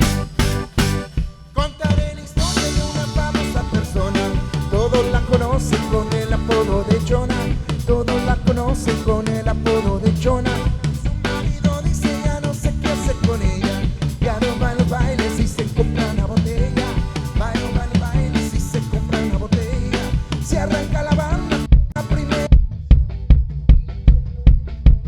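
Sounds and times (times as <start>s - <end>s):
live band playing: 0.0s - 22.9s
driving drum beat: 0.0s - 25.0s.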